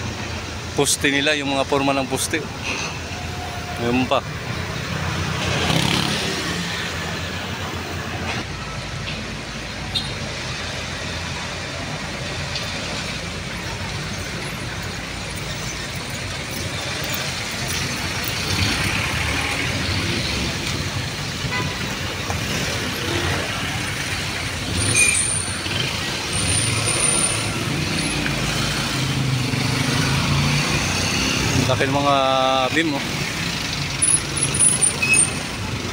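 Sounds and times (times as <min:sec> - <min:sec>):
cars and trucks passing: 0:00.0 - 0:35.9
roadway rumble: 0:00.0 - 0:35.9.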